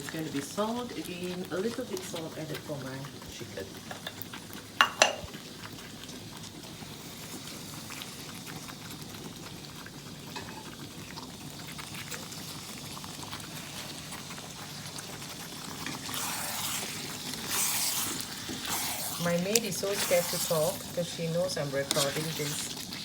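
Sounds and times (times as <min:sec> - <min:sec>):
curry bubbling in a pot: 0:00.0 - 0:23.0.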